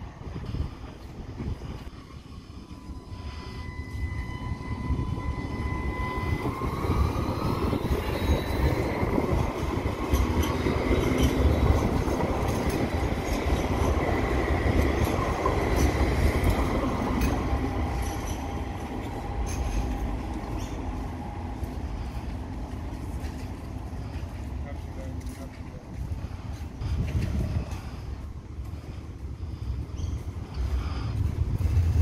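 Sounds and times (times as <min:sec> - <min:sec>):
steel wheels rumbling on rails: 0:00.0 - 0:32.0
tram electric drive whining: 0:00.0 - 0:32.0.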